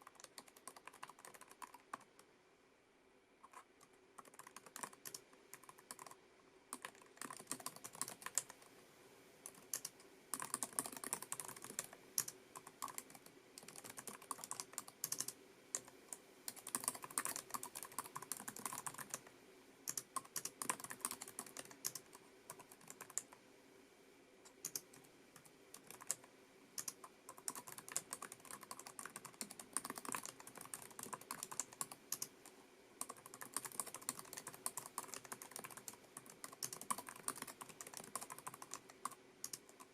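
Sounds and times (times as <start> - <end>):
keyboard typing clicks: 0.0 - 2.2, 3.4 - 8.7, 9.5 - 19.3, 19.9 - 23.3, 24.4 - 26.2, 26.8 - 32.4, 33.0 - 39.9.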